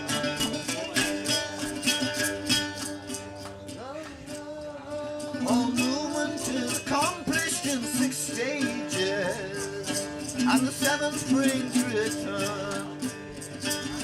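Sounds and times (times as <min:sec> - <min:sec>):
person singing: 0:00.0 - 0:14.0
plucked guitar: 0:00.0 - 0:14.0.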